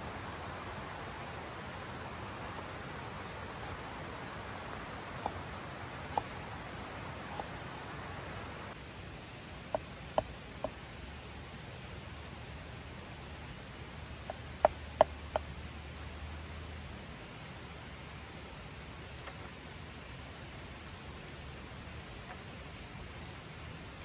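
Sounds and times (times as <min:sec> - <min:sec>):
faint steady hiss: 0:00.0 - 0:24.0
insect droning: 0:00.0 - 0:24.0.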